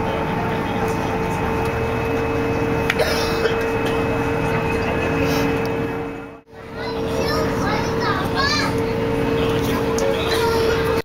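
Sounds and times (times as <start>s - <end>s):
ferry engines droning: 0.0s - 11.0s
high engine whine: 0.0s - 11.0s.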